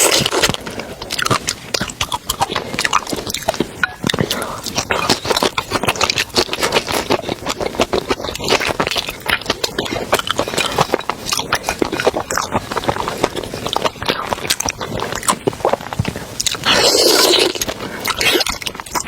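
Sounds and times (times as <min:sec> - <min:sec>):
close-miked chewing and crackling: 0:00.0 - 0:19.0.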